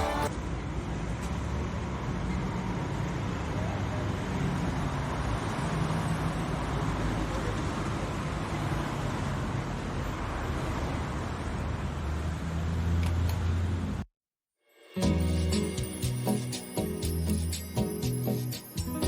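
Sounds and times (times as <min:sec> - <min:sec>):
street traffic noise: 0:00.0 - 0:14.1, 0:15.1 - 0:19.0.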